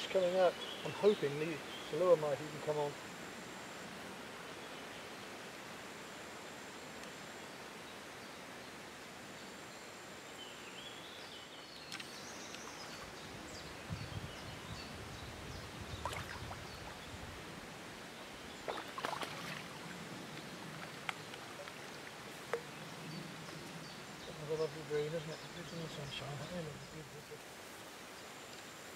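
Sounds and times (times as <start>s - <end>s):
outdoor background hiss: 0.0s - 28.9s.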